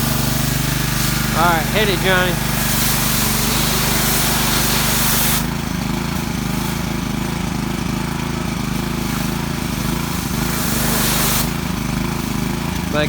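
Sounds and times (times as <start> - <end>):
small gasoline engine running: 0.0 - 13.0
water spray hissing: 0.0 - 13.0.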